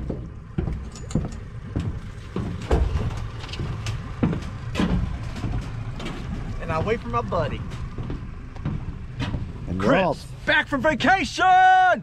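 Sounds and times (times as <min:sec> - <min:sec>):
irregular knocks and bumps: 0:00.0 - 0:09.7
engine idling: 0:00.0 - 0:11.7.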